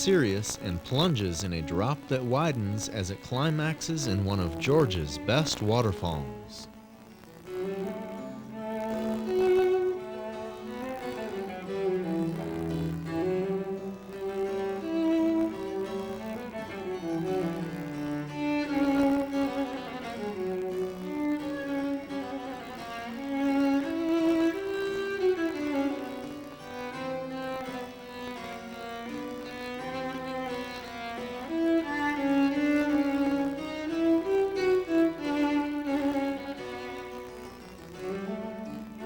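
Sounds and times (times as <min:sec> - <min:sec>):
slow string melody: 0:00.0 - 0:39.0.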